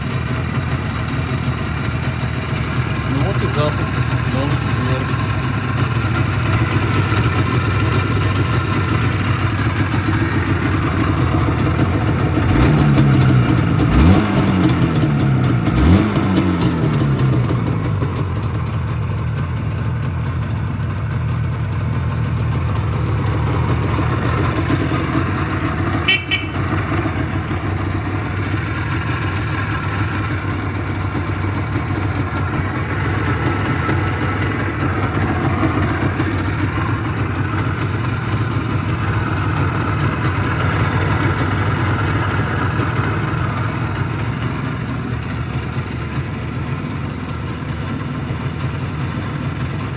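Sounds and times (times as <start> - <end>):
motorcycle engine idling and blipping: 0.0 - 49.9.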